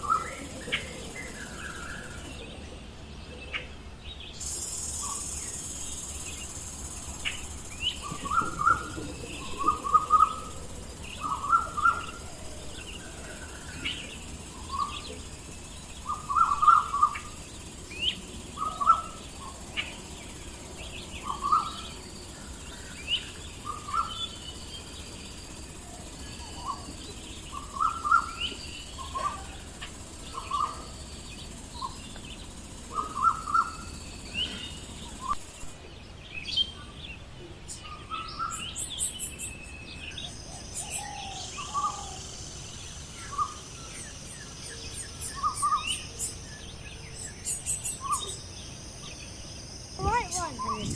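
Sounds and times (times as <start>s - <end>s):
birds calling: 0.0s - 50.9s
steady background hiss: 0.0s - 50.9s
sharp bird chirps: 4.3s - 35.8s, 37.6s - 50.9s.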